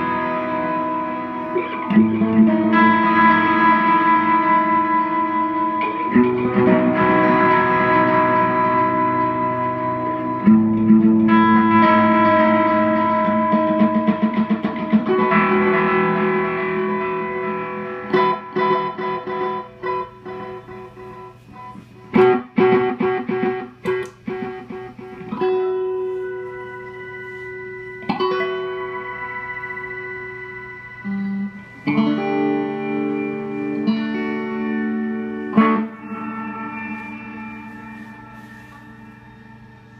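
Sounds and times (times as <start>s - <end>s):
electric guitar with delay: 0.0s - 39.9s.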